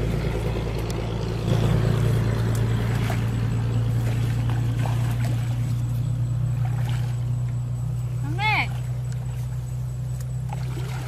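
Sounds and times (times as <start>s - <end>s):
low engine drone: 0.0s - 11.0s
water splashing and trickling: 0.0s - 11.0s.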